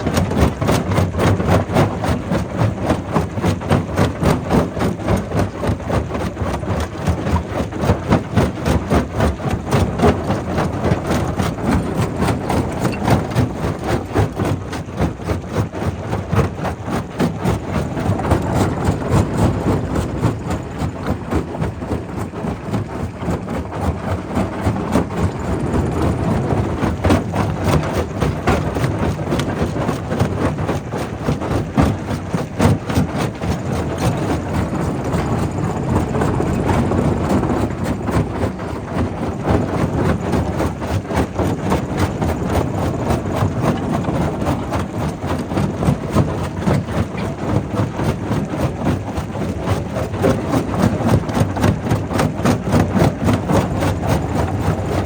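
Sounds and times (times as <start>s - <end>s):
rock crusher rumble: 0.0s - 55.0s.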